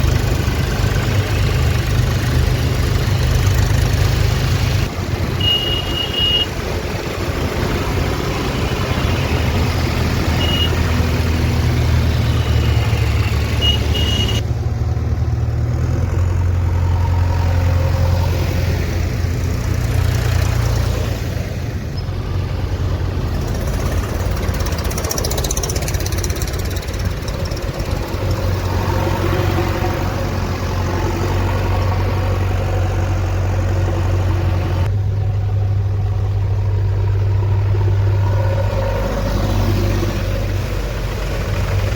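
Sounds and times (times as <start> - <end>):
heavy diesel engine rumbling: 0.0 - 41.9.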